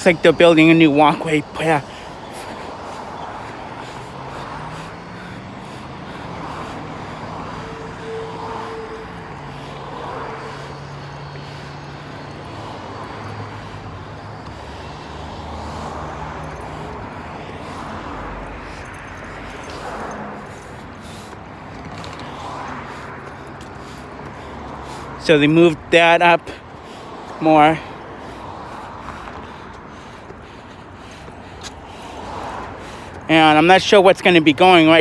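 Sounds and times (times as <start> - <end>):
engine drone: 0.0 - 35.0.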